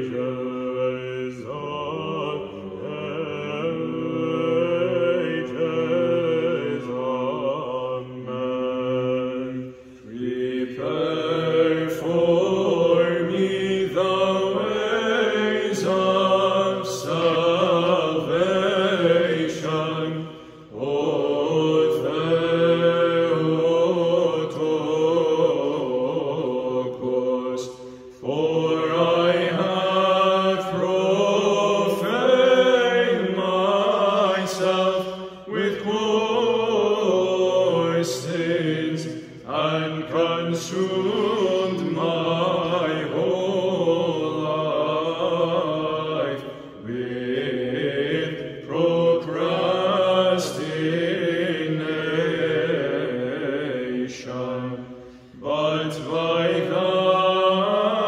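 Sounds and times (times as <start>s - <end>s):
choir chanting: 0.0s - 58.0s
low held vocal drone: 0.0s - 58.0s.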